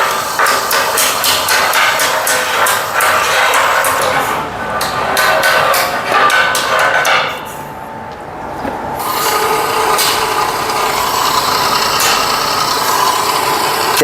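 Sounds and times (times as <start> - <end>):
machine drive running steadily: 0.0 - 7.2, 7.8 - 14.0
machine clattering on steel pipe: 0.0 - 7.6, 9.2 - 14.0.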